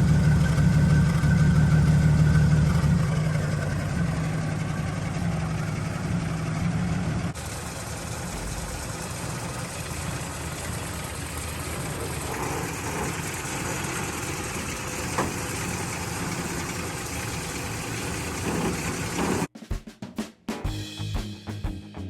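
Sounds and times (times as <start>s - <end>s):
engine idling: 0.0s - 19.5s.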